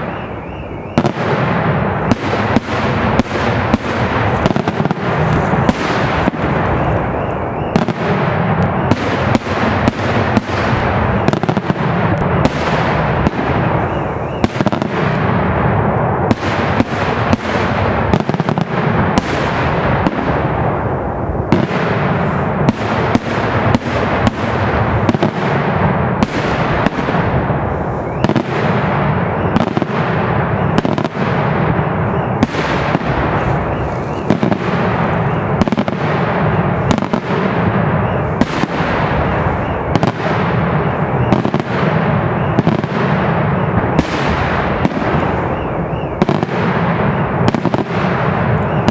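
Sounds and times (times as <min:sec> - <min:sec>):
fireworks bursting: 0:00.0 - 0:48.9.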